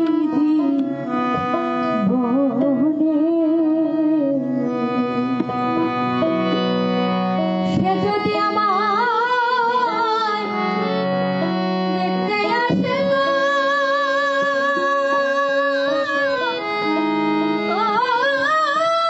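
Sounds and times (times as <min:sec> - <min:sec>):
sustained keyboard notes: 0:00.0 - 0:19.0.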